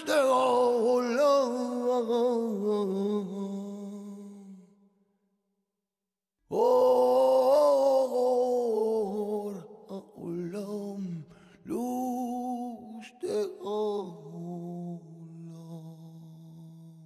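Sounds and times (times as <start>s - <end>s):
person singing wordless chant: 0.0s - 4.7s, 6.5s - 17.0s.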